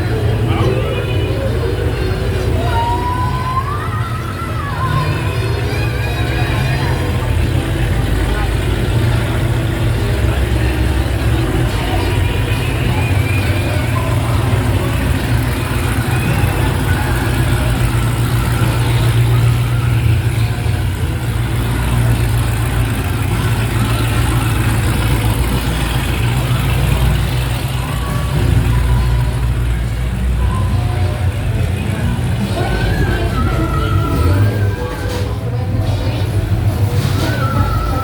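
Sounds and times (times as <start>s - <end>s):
car engines running: 0.0s - 38.0s
faint crowd chatter: 0.0s - 38.0s.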